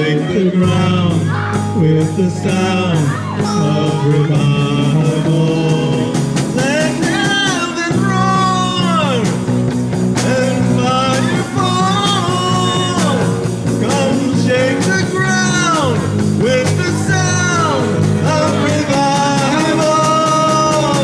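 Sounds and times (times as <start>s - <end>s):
people singing into microphones: 0.0s - 21.0s
rock band playing: 0.0s - 21.0s.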